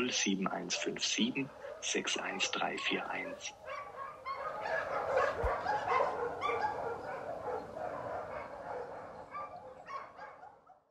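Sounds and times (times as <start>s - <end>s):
dogs barking and yelping: 0.0s - 10.8s.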